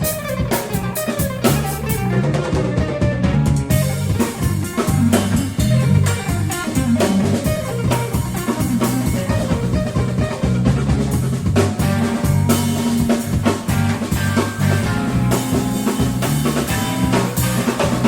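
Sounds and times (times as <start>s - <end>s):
bass line: 0.0s - 18.0s
drum kit with rimshots: 0.0s - 18.0s
electric guitar: 0.0s - 18.0s.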